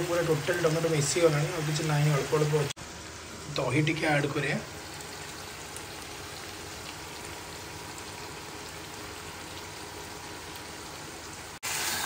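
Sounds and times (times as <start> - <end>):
curry sizzling: 0.0 - 12.0.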